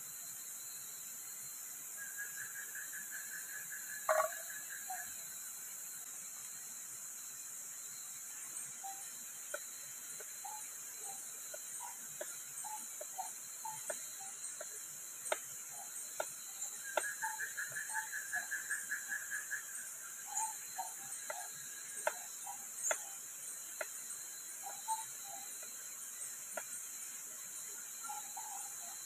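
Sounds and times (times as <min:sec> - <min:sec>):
night insects chirring: 0:00.0 - 0:29.0.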